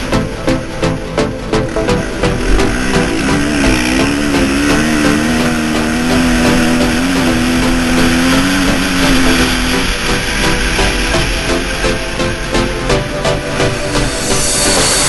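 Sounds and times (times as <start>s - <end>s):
motocross bike engine high revs: 0.0s - 15.0s.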